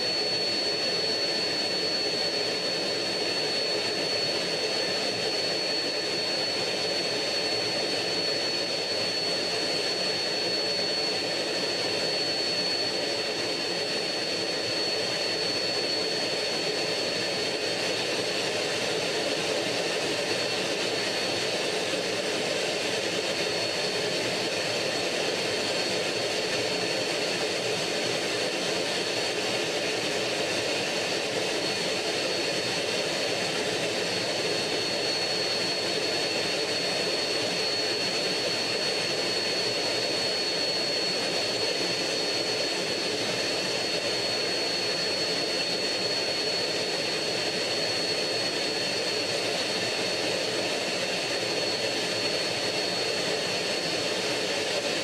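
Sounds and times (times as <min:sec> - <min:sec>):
jet engine whine: 0:00.0 - 0:55.0.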